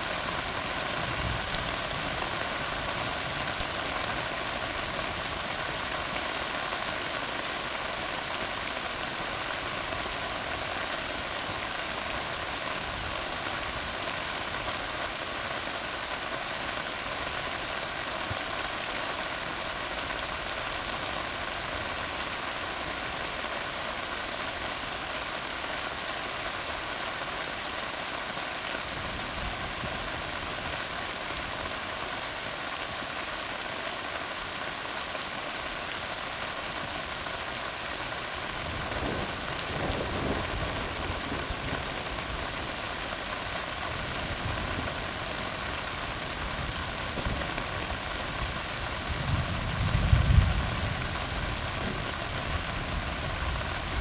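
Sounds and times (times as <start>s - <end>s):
steady rain on a road: 0.0s - 54.0s.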